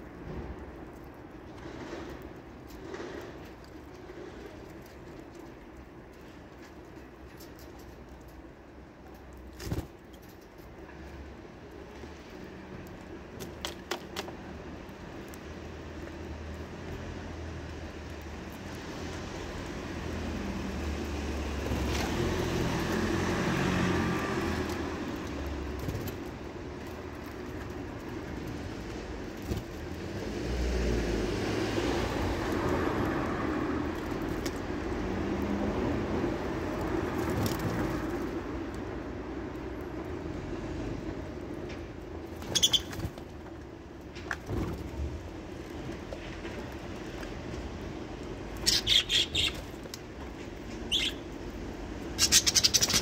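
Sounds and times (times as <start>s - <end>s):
road traffic passing: 0.0s - 10.1s, 10.7s - 53.0s.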